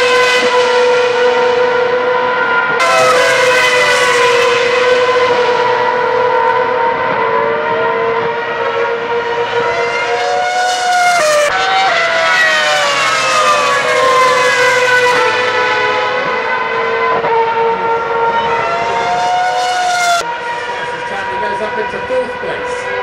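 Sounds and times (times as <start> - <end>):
racing car engines passing at high revs: 0.0 - 23.0.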